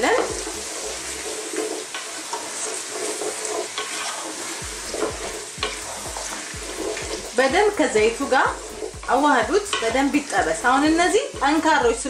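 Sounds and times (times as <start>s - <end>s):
wooden spoon scraping and knocking pot: 0.0s - 11.6s
vegetables sizzling in hot oil: 0.0s - 12.0s.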